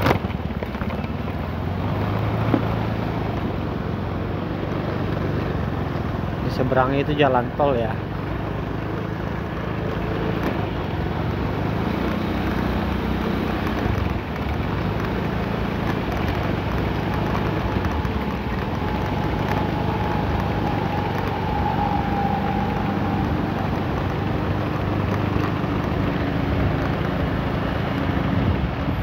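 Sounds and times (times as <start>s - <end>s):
traffic engine drone: 0.0s - 29.0s.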